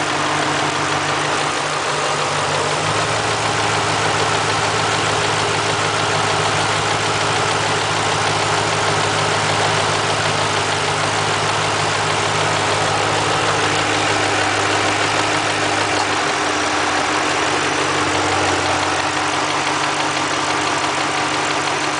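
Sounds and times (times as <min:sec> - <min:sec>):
car engine idling: 0:00.0 - 0:21.9
engine clunking noise: 0:00.0 - 0:21.9.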